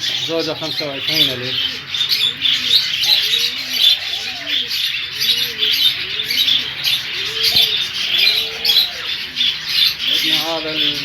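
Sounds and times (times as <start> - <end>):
pigeons cooing: 0.0 - 11.0
small birds chirping and chattering: 0.0 - 11.0.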